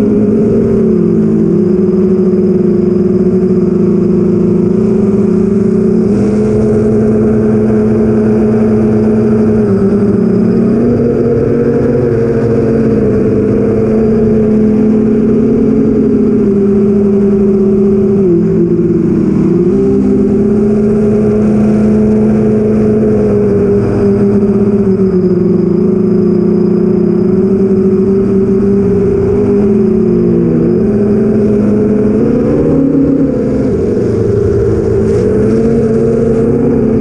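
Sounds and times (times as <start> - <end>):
drone motors buzzing whine: 0.0 - 37.0.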